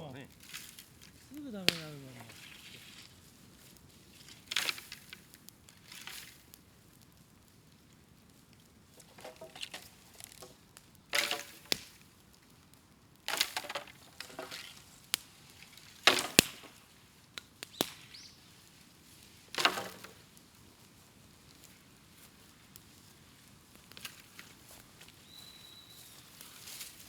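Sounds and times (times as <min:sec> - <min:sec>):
bamboo bonfire crackling and popping: 0:00.0 - 0:27.0.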